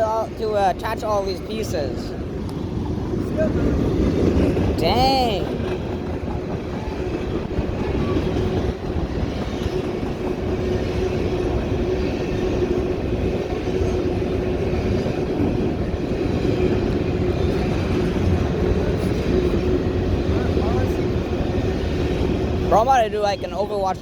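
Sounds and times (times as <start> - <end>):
freight train wheels on rails: 0.0 - 24.0.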